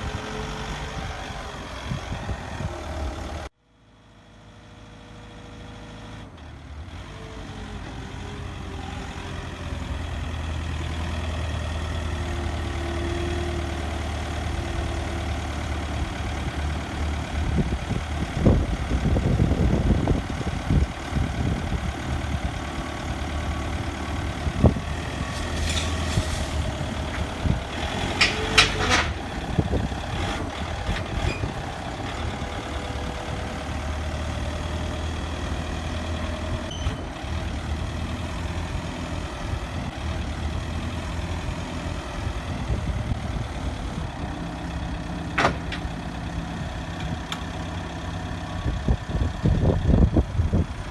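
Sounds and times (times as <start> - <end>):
forklift engine running: 0.0 - 50.9.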